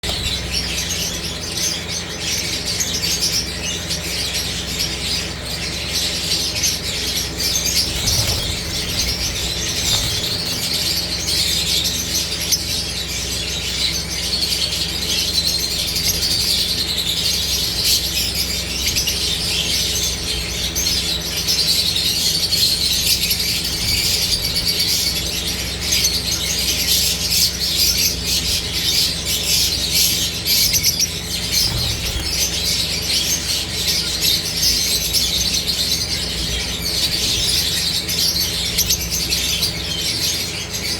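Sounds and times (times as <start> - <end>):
lovebirds chattering and chirping: 0.0 - 40.9
steady low hum: 0.0 - 40.9.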